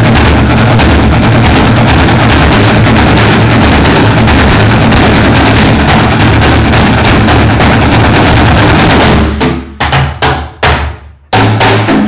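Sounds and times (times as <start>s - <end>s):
sticks beating plastic barrels: 0.0s - 12.0s.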